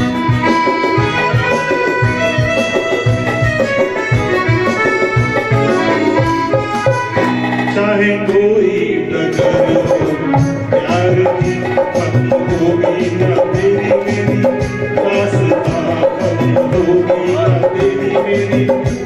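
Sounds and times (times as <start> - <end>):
hand drum beat: 0.0 - 19.0
keyboard melody with reedy notes: 0.0 - 19.0.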